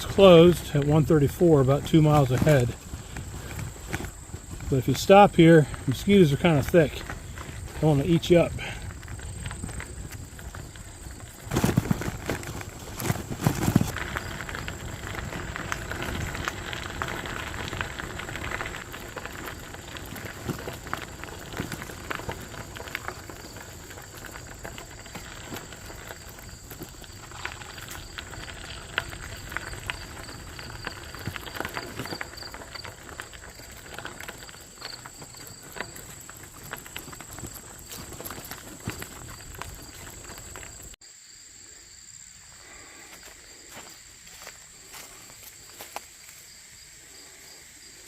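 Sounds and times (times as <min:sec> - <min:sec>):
bicycle tires on gravel: 0:00.0 - 0:48.0.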